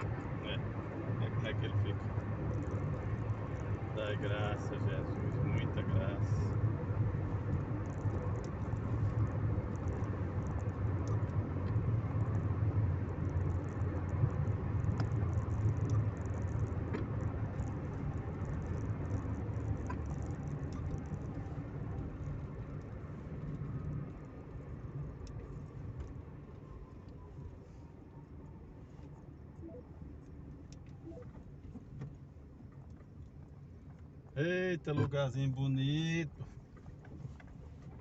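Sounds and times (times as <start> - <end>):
car engine rumble: 0.0 - 38.0
road noise: 0.0 - 38.0.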